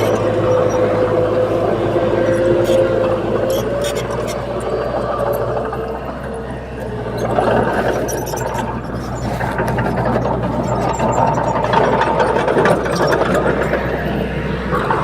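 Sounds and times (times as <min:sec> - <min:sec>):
bulldozer diesel engine running: 0:00.0 - 0:15.0
faint mechanical clatter: 0:00.0 - 0:15.0.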